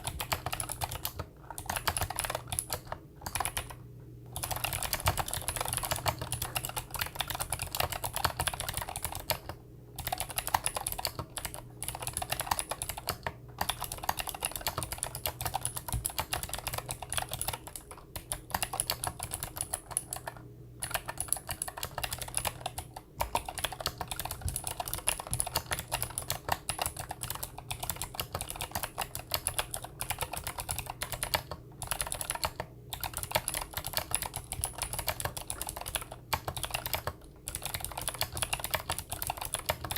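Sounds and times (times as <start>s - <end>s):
clicky mechanical keyboard typing: 0.0s - 39.9s.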